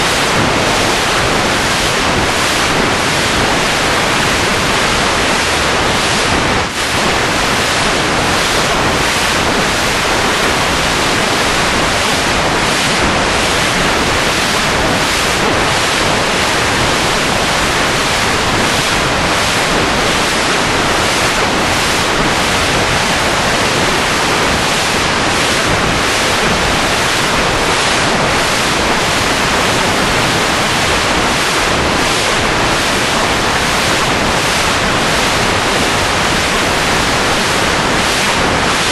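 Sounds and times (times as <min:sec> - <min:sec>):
loud steady rushing noise: 0:00.0 - 0:38.9.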